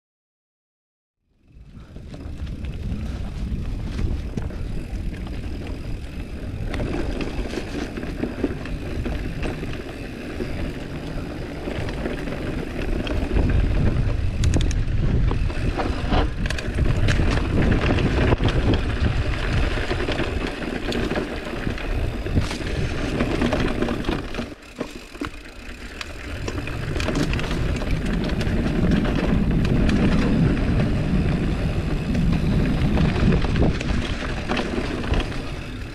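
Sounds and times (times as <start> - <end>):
bike rattling and clicking: 1.3 - 35.9
bike tyres rolling on dirt: 1.3 - 35.9
wind rumble on microphone: 1.5 - 24.5, 26.0 - 35.9.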